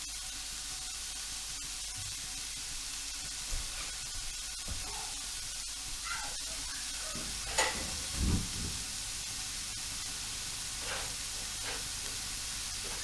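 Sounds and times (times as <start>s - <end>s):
bacon sizzling in a pot: 0.0s - 13.0s.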